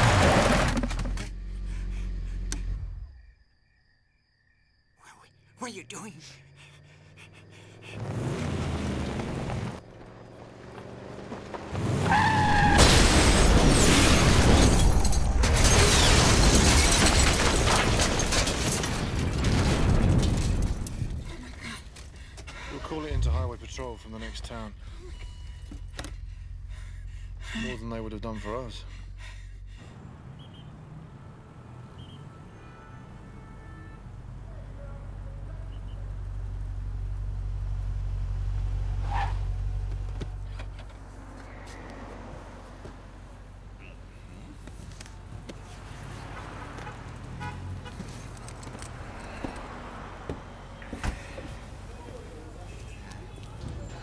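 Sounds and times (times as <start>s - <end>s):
car engine rumble: 0.0s - 3.3s, 6.4s - 32.2s, 34.1s - 54.0s.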